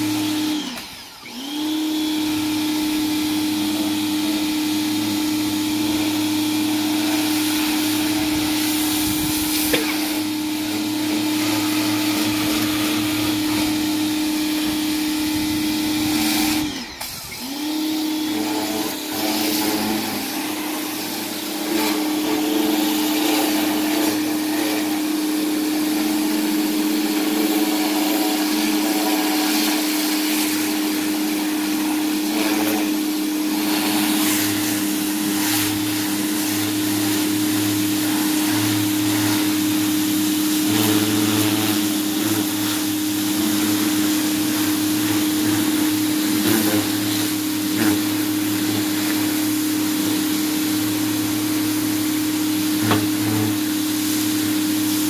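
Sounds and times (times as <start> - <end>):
pressure washer motor: 0.0 - 55.0
spray hissing: 5.9 - 55.0.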